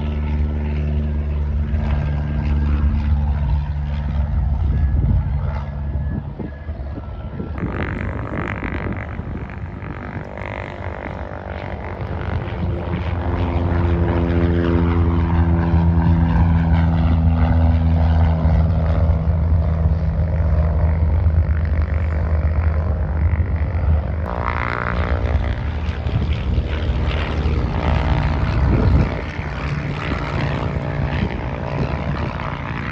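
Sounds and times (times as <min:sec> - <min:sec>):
propeller aircraft engine drone: 0:00.0 - 0:32.9.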